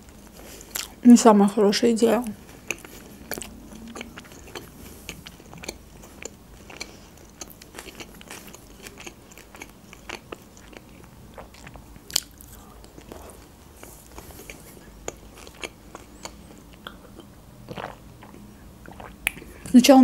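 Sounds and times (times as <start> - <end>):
chewing with wet mouth clicks: 0.2 - 1.0, 2.5 - 19.6.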